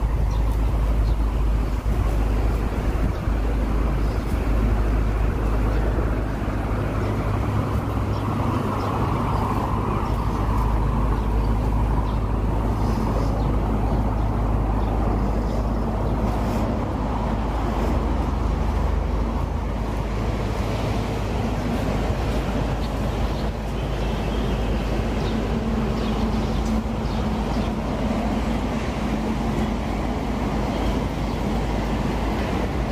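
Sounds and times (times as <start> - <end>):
constant low rumble: 0.0 - 32.9.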